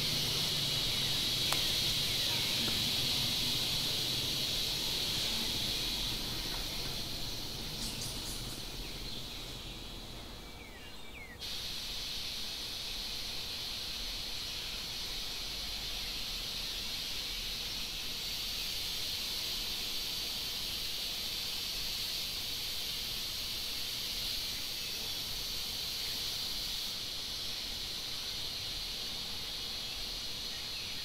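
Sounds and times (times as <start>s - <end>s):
high-pitched insect drone: 0.0s - 31.0s
soft background hiss: 0.0s - 31.0s.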